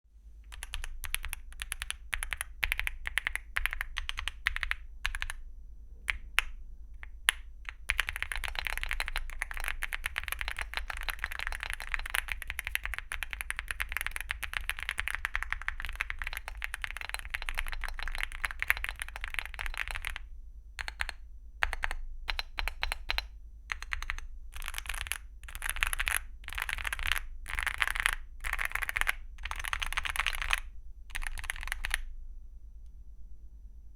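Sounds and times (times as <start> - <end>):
mechanical keyboard typing: 0.5 - 5.4, 6.1 - 32.1.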